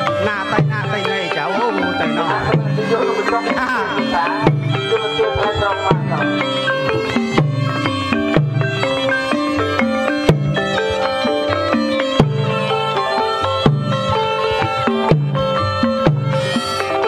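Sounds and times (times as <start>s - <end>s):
traditional ensemble melody: 0.0s - 17.0s
wavering high melody: 0.0s - 17.0s.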